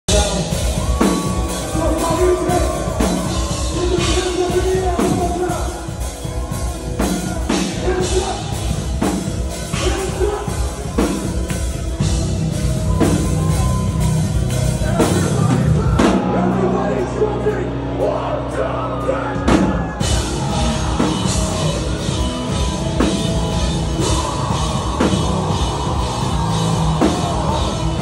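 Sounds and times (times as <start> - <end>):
drum kit: 0.1 - 16.6, 19.4 - 28.0
distorted guitars: 0.1 - 28.0.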